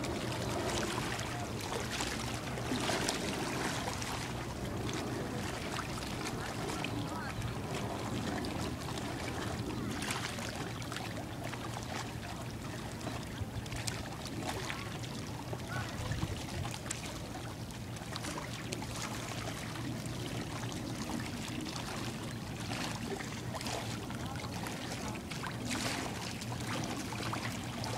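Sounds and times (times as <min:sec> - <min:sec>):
small waves lapping on rocks: 0:00.0 - 0:27.9.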